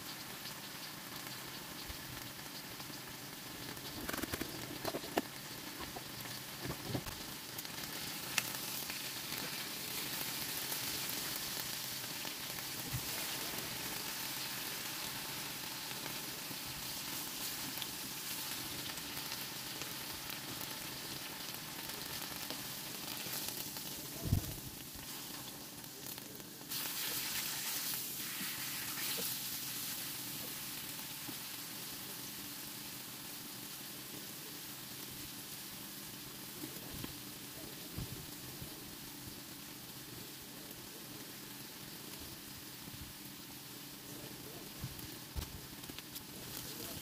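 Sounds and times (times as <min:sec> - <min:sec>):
chicken sizzling in grill pan: 0:00.0 - 0:47.0.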